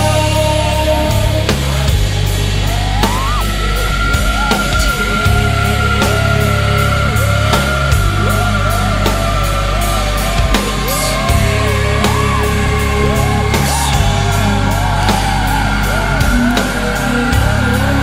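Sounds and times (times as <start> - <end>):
heavy rock music: 0.0 - 18.0
steady drum beat: 0.0 - 18.0
thick bass line: 0.0 - 18.0
wavering lead melody: 0.0 - 18.0.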